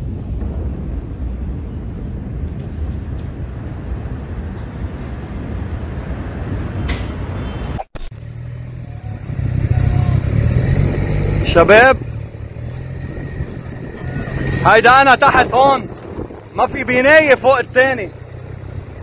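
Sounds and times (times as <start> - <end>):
low rumbling wind-like noise: 0.0 - 19.0.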